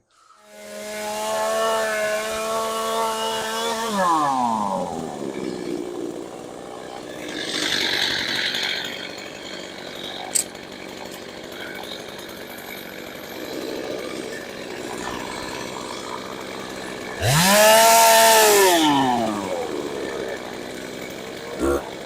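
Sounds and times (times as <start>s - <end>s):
chainsaw high whine: 0.0s - 22.0s.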